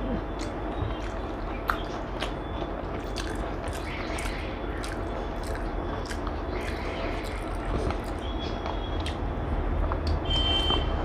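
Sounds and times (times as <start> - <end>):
wet chewing and smacking: 0.2 - 10.2.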